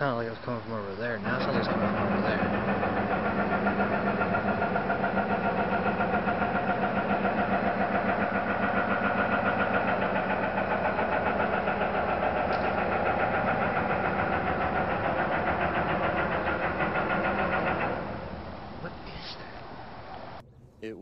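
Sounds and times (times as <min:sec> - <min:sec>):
pulsing droning hum: 0:00.0 - 0:21.0.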